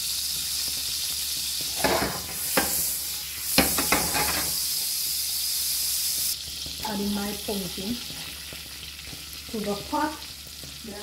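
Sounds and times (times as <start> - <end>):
butter sizzling in a pan: 0.0 - 11.0.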